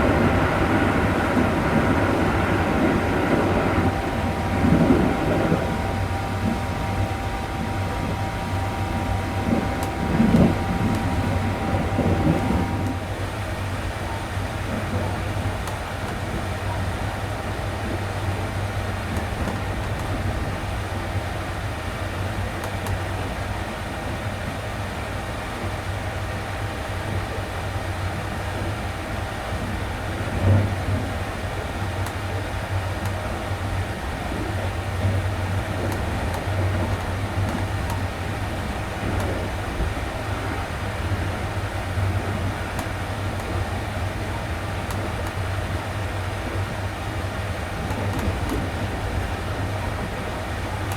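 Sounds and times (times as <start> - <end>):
train interior rumble and hum: 0.0 - 50.9.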